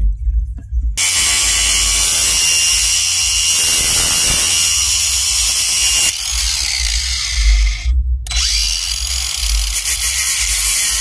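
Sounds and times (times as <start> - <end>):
angle grinder whining: 1.0 - 11.0.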